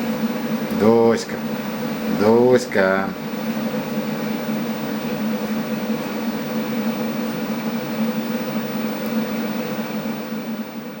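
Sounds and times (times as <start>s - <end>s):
fan motor humming: 0.0s - 11.0s.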